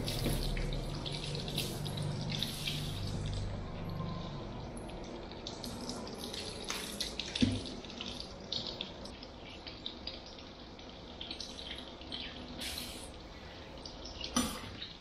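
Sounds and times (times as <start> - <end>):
light clicks and splashes: 0.0 - 15.0
water trickling in basin: 0.0 - 15.0.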